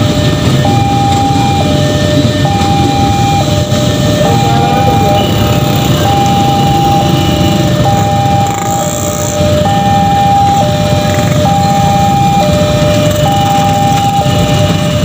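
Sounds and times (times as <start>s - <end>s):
electric train rumbling past: 0.0s - 15.0s
level crossing two-tone alarm: 0.0s - 15.0s.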